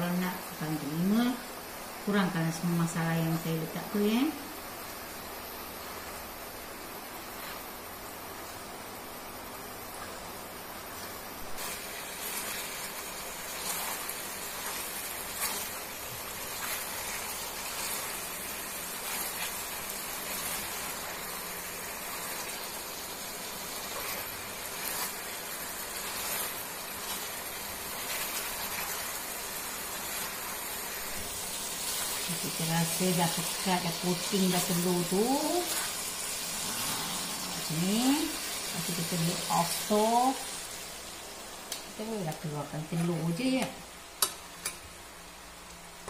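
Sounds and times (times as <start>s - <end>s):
sauce sizzling in a frying pan: 0.0s - 46.0s.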